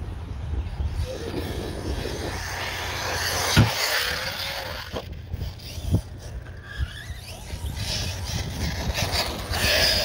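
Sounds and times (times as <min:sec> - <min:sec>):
rc truck motor whine: 0:00.6 - 0:10.0.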